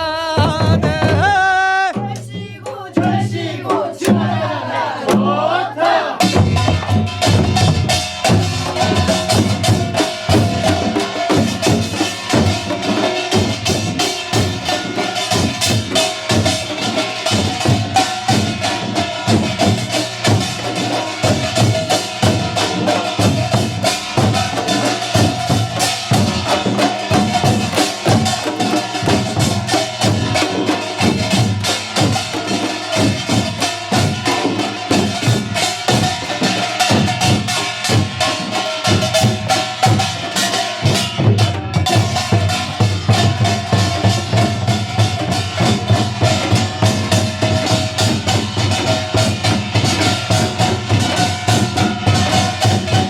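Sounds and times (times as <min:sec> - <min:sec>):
drums playing fast rhythm: 0:00.0 - 0:53.0.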